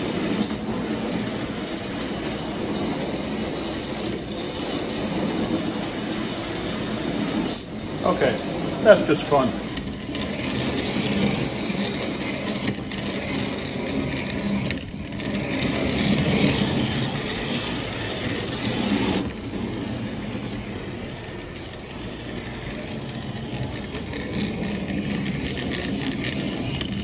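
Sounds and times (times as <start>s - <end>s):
toy train motor and gears whirring: 0.0s - 27.0s.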